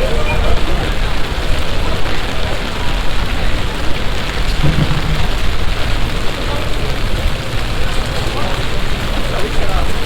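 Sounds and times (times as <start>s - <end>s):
heavy rain pouring and splashing: 0.0s - 10.0s.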